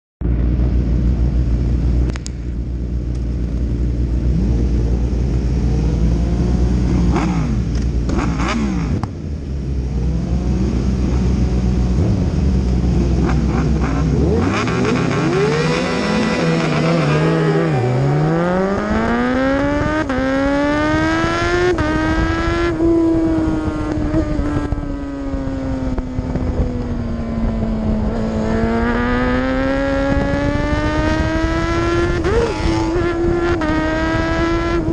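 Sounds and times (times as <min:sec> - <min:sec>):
racing motorcycle engine accelerating: 0:00.2 - 0:34.9.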